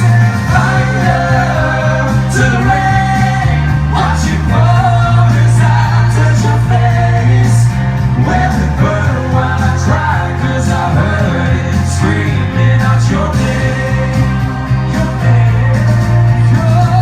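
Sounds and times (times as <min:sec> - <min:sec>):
band playing with heavy bass: 0:00.0 - 0:17.0
men singing: 0:00.0 - 0:17.0.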